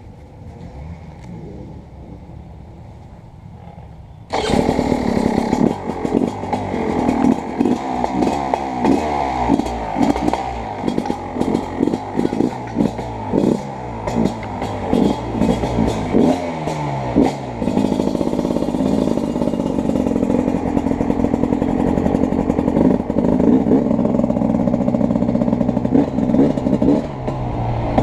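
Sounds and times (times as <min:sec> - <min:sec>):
dirt bike engine revving: 0:03.6 - 0:28.0.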